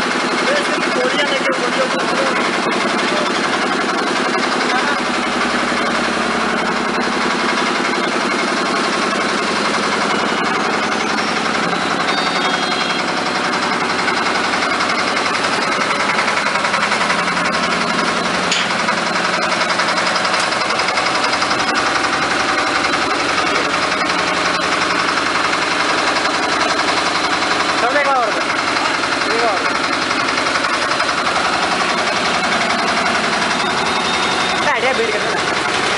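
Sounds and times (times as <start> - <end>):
concrete mixer running: 0.0 - 35.9.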